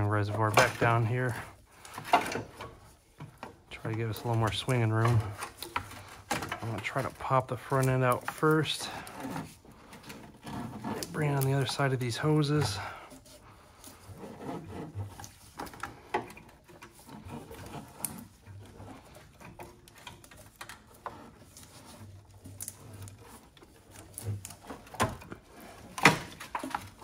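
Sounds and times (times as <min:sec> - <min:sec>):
rubbing and rustling of hoses: 0:00.0 - 0:27.0.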